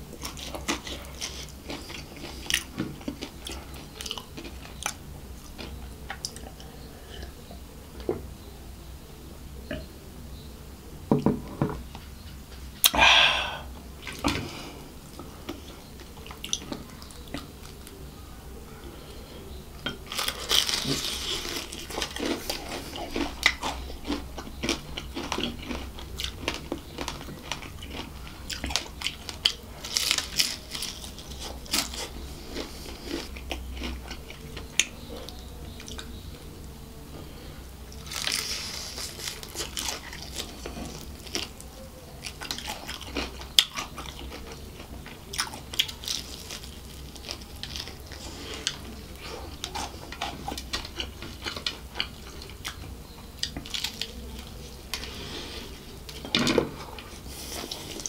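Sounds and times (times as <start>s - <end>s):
crunching and chewing fried food: 0.0s - 8.3s, 11.9s - 58.0s.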